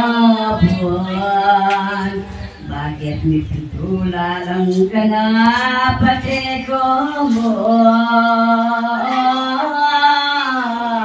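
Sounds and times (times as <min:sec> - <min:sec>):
person chanting a slow hymn: 0:00.0 - 0:11.0.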